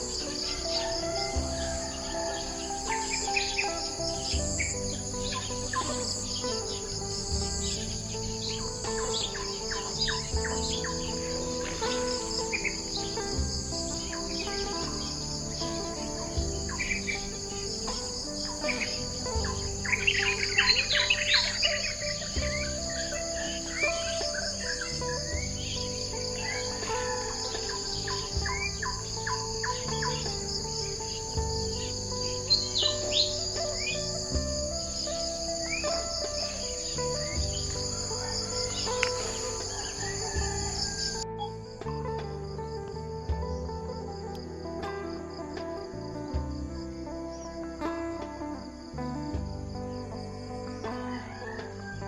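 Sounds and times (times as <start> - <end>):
birds chirping and twittering: 0.0 - 41.9, 49.4 - 52.0
high insect drone: 0.0 - 52.0
soft background music: 0.0 - 52.0.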